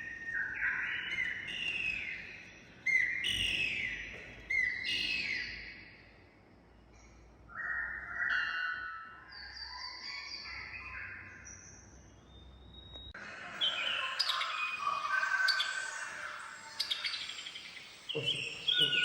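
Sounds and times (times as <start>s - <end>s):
recorded birds chirping: 0.0s - 19.0s.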